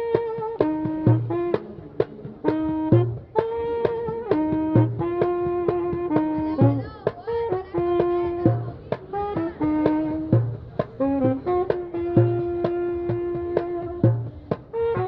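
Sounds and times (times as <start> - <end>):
darbuka rhythm: 0.0 - 15.0
saxophone jazz melody: 0.0 - 15.0.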